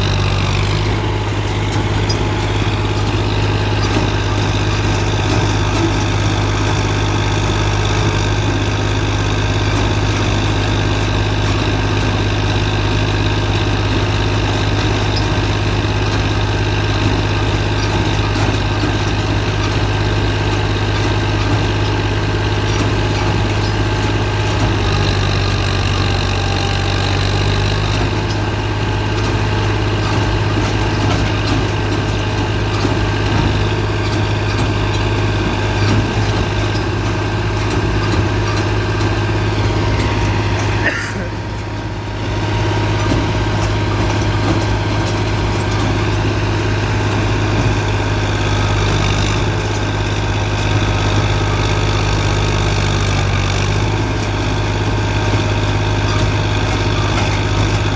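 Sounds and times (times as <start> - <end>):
baling press machine droning: 0.0 - 52.6.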